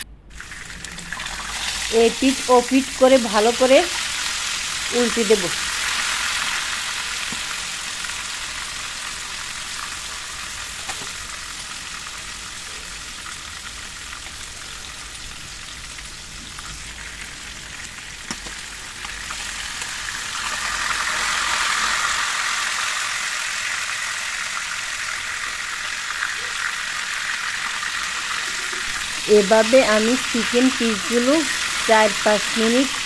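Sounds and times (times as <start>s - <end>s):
chicken sizzling in hot oil: 0.0s - 29.2s.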